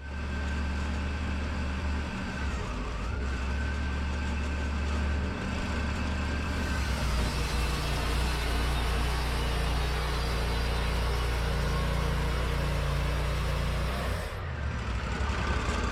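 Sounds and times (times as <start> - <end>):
sawmill engine running: 0.0 - 15.9.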